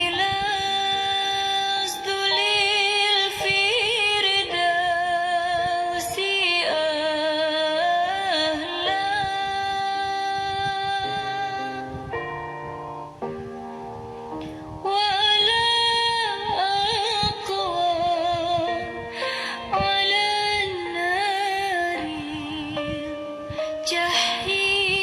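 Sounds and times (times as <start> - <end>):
woman singing devotional melody: 0.0 - 25.0.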